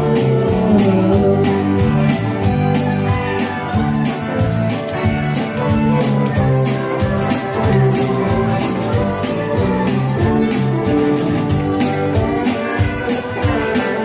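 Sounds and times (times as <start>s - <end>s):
country band playing: 0.0s - 14.0s
shaker or tambourine: 0.0s - 14.0s
steady drum beat: 0.0s - 14.0s.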